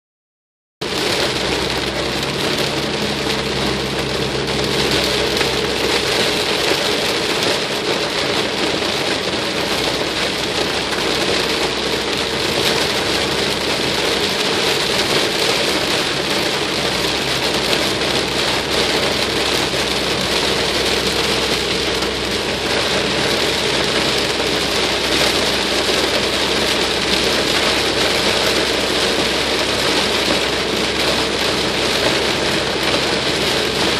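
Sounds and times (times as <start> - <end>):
heavy rain on car roof: 0.8 - 33.9
low road and engine hum: 0.8 - 33.9.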